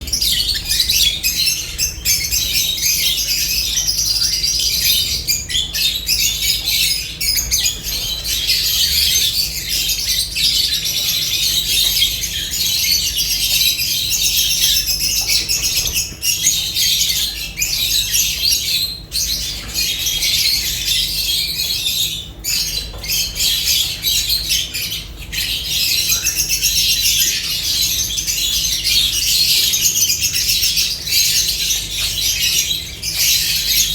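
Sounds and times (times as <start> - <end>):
lovebirds chattering and squawking: 0.0 - 33.9.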